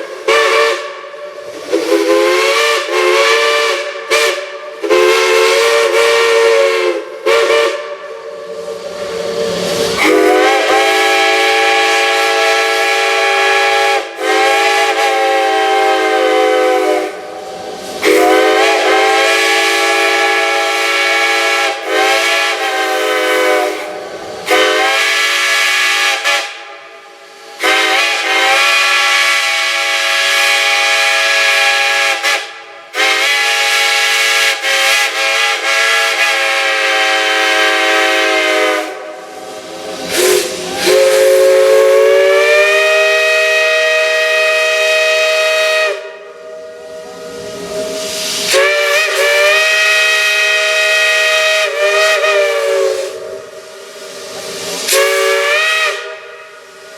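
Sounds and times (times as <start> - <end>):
chime steam whistle blasts: 0.0 - 56.9
steam hissing: 0.0 - 56.9.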